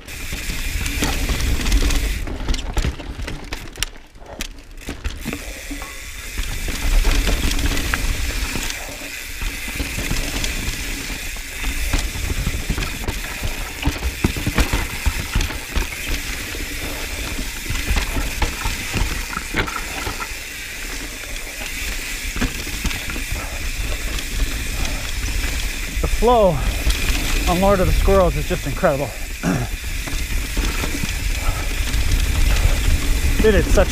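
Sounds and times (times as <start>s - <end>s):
bicycle freehub buzzing: 0.0s - 33.9s
bike knocks and rattles: 0.0s - 33.9s
tyres rolling over dirt: 0.0s - 33.9s.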